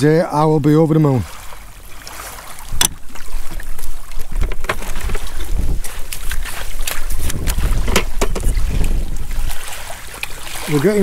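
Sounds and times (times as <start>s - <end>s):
wind rumbling on microphone: 1.2s - 11.0s.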